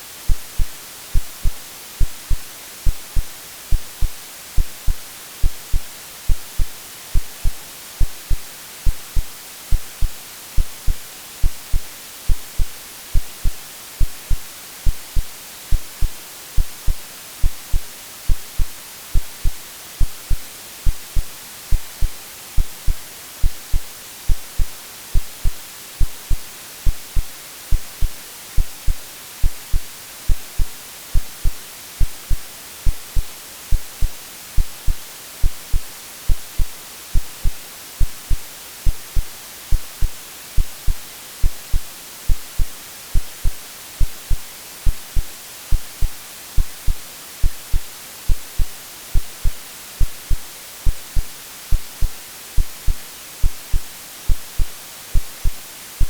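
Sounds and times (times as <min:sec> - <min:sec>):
white noise hiss: 0:00.0 - 0:56.0
heartbeat thumps: 0:00.3 - 0:55.6.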